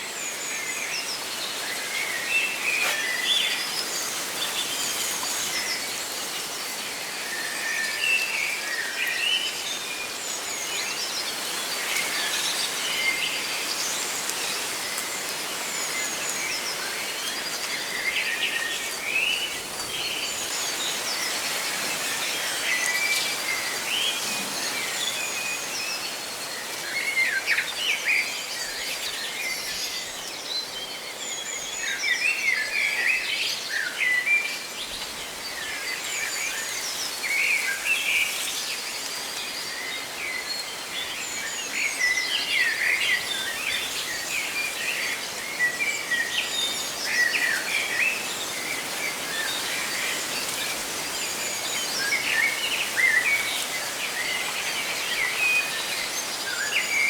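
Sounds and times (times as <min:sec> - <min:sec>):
leaves rustling in wind: 0:00.0 - 0:57.0.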